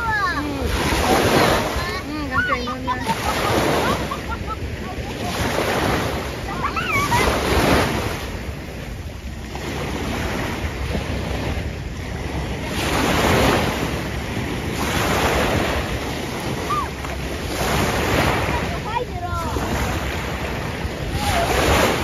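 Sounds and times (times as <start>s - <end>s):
small sea waves washing: 0.0s - 22.0s
wind rumbling on microphone: 0.0s - 22.0s.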